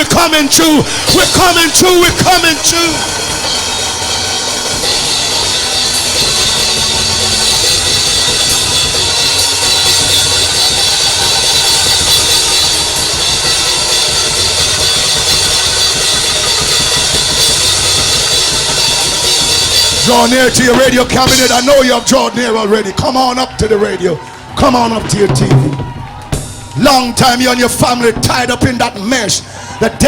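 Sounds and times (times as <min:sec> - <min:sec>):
drum kit with cymbals: 0:00.0 - 0:22.5, 0:24.8 - 0:29.6
live band music: 0:00.0 - 0:30.0.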